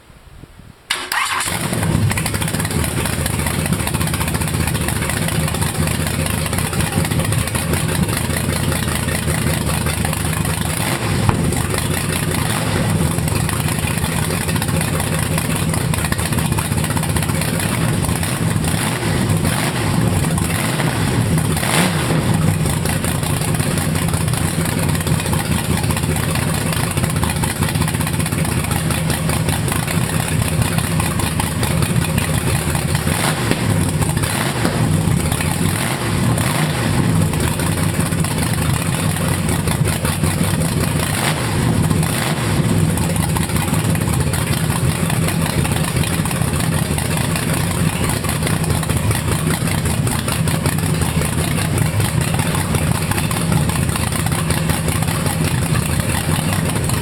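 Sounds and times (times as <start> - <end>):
engine starting and idling: 0.9 - 57.0
engine throttle blips: 0.9 - 57.0.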